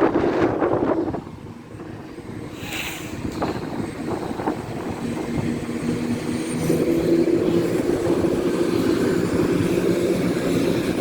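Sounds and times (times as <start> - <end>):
diesel train engines running: 0.0 - 11.0.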